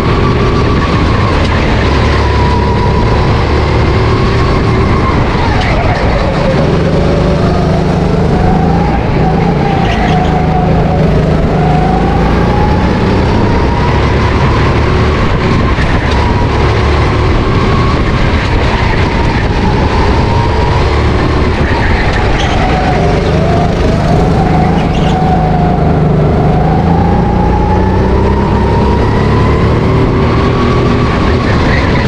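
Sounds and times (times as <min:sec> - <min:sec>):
go-kart engine running hard: 0:00.0 - 0:32.0.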